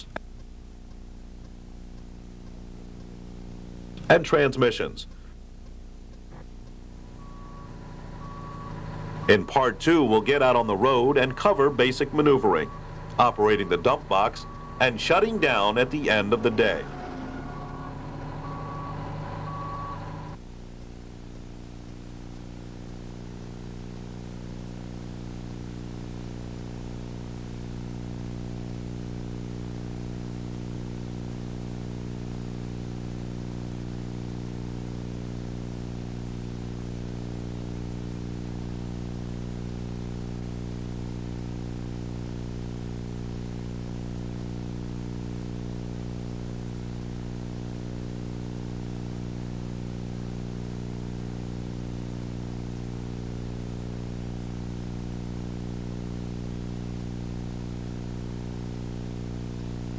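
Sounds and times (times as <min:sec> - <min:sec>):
low hum: 0:05.1 - 0:59.9.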